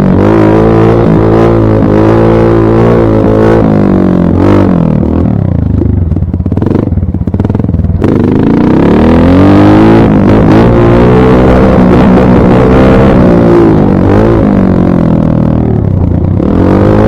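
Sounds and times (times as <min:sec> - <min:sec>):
dirt bike engine revving: 0:00.0 - 0:05.5, 0:06.5 - 0:17.0.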